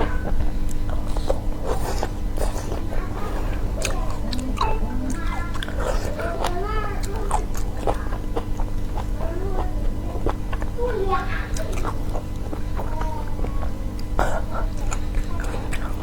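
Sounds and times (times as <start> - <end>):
chewing seafood crunching: 0.0 - 16.0.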